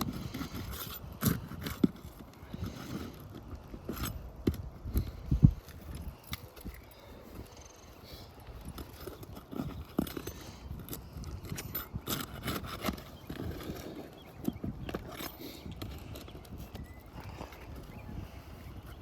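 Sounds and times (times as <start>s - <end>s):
hand tools on roof shingles: 0.0s - 7.1s, 8.4s - 19.0s.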